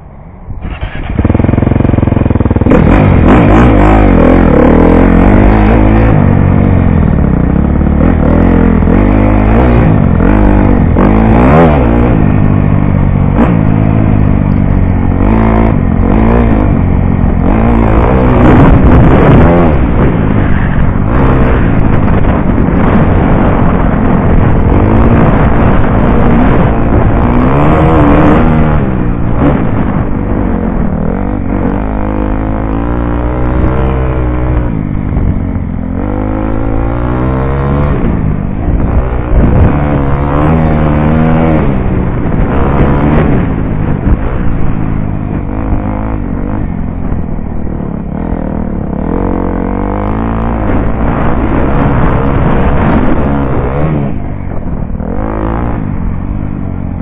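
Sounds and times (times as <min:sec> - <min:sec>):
dirt bike engine revving: 0:00.6 - 0:57.0.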